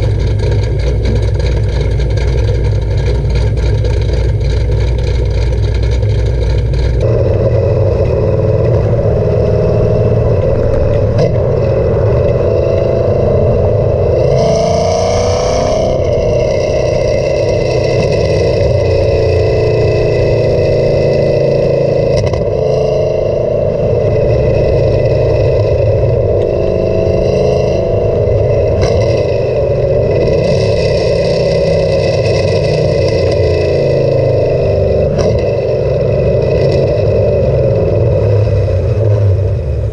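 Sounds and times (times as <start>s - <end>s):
car exhaust drone: 0.0s - 39.9s.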